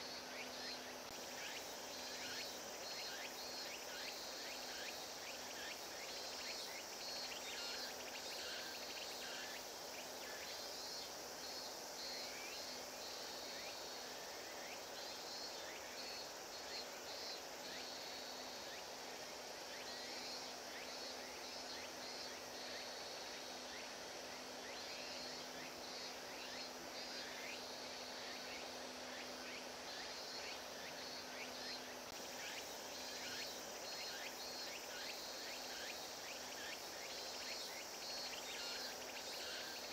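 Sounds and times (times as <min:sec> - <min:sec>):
insects calling in pulsed bursts: 0:00.0 - 0:39.9.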